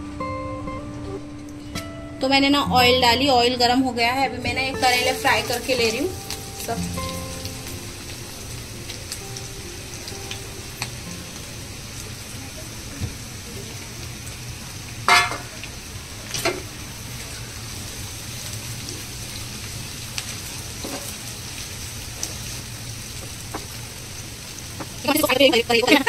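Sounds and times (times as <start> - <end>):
vegetables sizzling in oil: 4.7 - 26.0.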